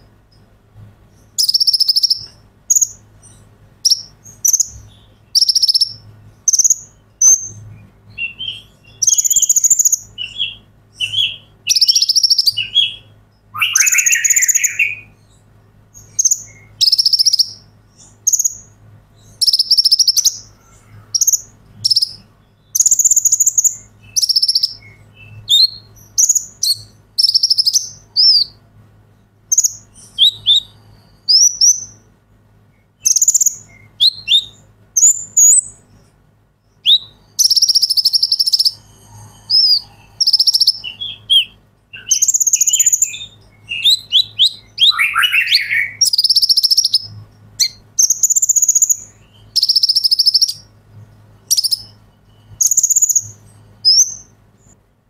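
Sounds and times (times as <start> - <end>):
faint steady hum: 0.0 - 55.0
bird chirping and trilling: 1.1 - 28.6, 29.5 - 32.1, 32.7 - 36.0, 36.6 - 50.7, 51.4 - 54.4.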